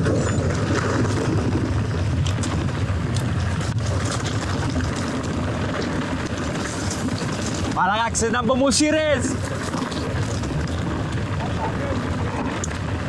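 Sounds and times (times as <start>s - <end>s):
bike clicking and rattling: 0.0s - 13.0s
tyres rolling over dirt and stones: 0.0s - 13.0s
wind on microphone: 0.0s - 13.0s.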